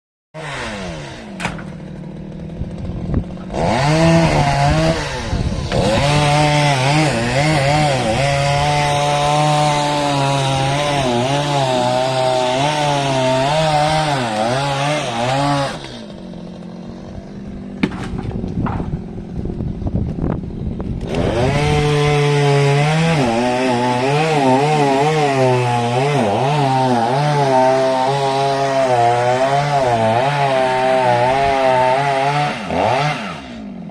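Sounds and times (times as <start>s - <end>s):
chainsaw idling and revving: 0.4s - 33.9s.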